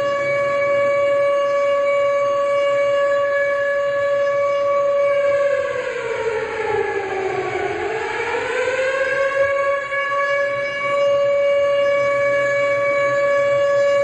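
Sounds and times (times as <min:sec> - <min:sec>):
siren wailing up and down: 0:00.0 - 0:14.0
steady siren: 0:00.0 - 0:14.0.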